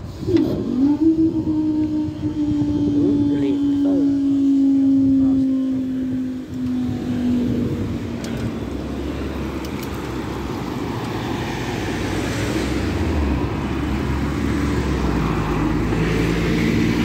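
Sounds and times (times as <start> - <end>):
bus engine drone: 0.0 - 17.0
car driving over crossing: 1.6 - 17.0.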